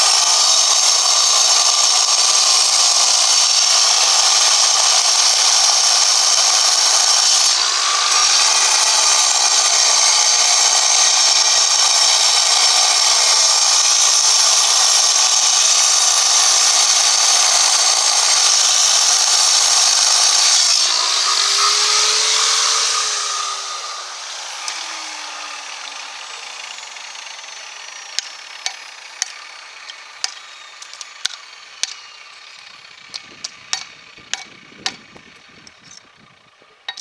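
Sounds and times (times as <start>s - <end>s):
angle grinder cutting stone: 0.0s - 36.1s, 36.7s - 37.0s
grinder motor winding down: 0.0s - 37.0s.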